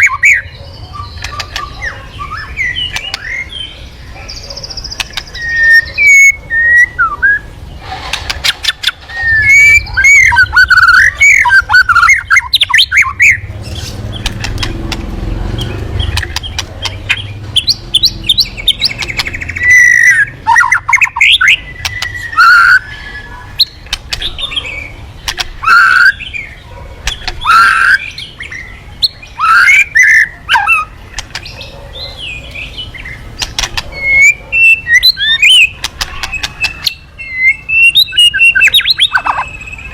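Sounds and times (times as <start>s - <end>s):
songbird singing whistles and chatter: 0.0s - 39.9s.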